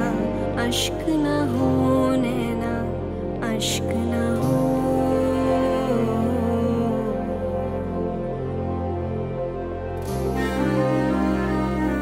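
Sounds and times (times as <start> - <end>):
slow sad background music: 0.0 - 12.0.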